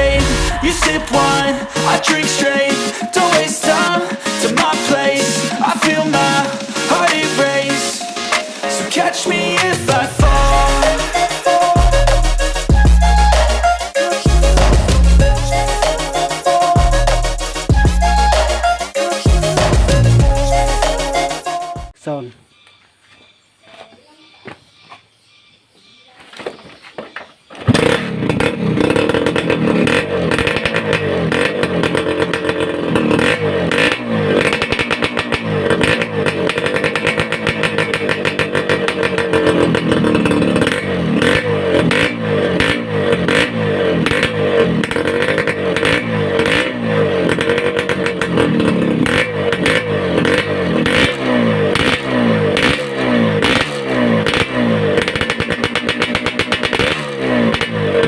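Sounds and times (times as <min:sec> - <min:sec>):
two-stroke motorcycle engine revving: 0:00.0 - 0:07.7, 0:09.2 - 0:21.0, 0:27.6 - 0:58.0.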